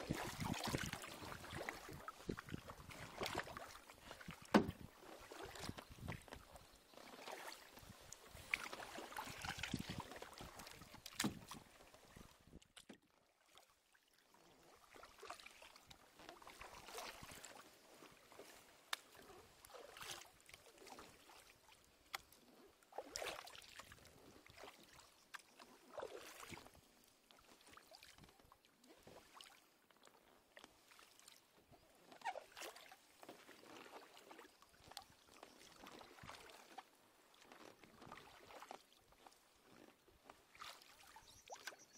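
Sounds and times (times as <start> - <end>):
paddle splashing in water: 0.0 - 41.9.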